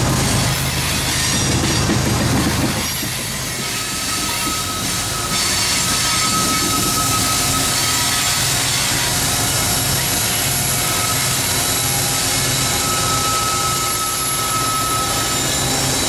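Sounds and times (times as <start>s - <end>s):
diesel locomotive engine hum: 0.0s - 16.0s
high-pitched wheel squeal: 1.1s - 16.0s.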